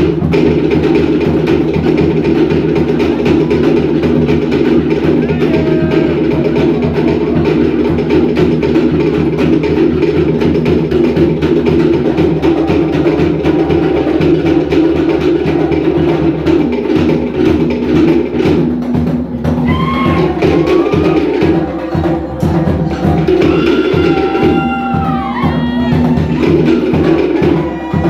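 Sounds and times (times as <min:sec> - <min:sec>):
drum ensemble playing: 0:00.0 - 0:28.0
sharp strikes on wooden slit drums: 0:00.0 - 0:28.0.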